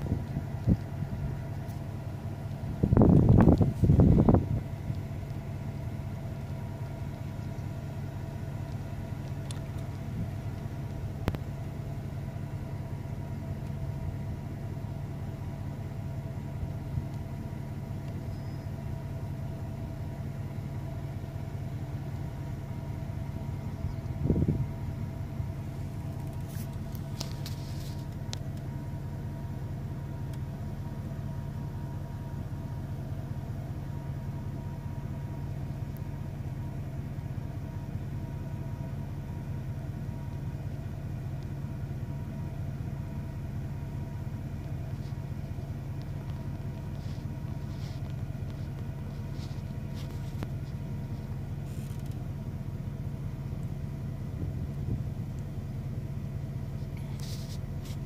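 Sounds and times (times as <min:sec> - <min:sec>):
low motor hum: 0:00.0 - 0:58.0.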